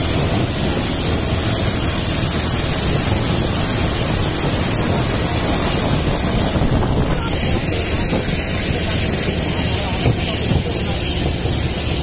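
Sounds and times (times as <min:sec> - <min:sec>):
car running noise: 0:00.0 - 0:12.0
wind on microphone: 0:00.0 - 0:12.0.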